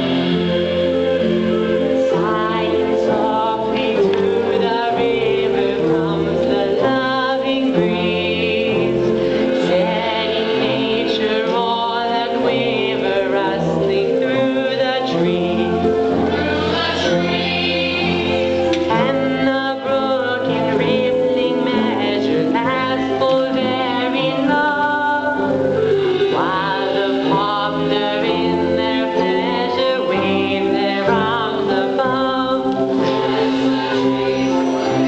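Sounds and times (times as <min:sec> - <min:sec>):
chorus singing in mixed voices: 0:00.0 - 0:35.0
instrumental accompaniment: 0:00.0 - 0:35.0.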